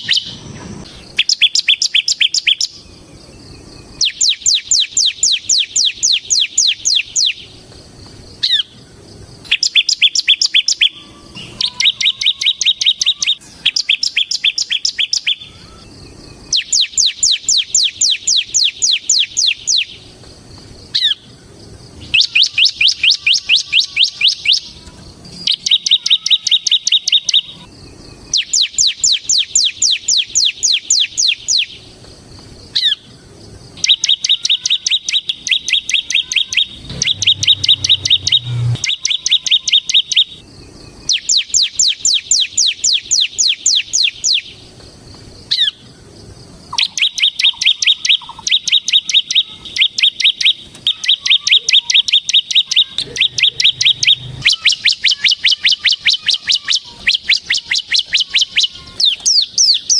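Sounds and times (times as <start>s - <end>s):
bird singing fast trilling song: 0.0s - 7.5s, 8.3s - 20.1s, 20.8s - 24.8s, 25.4s - 31.9s, 32.6s - 44.6s, 45.4s - 46.0s, 46.6s - 59.9s.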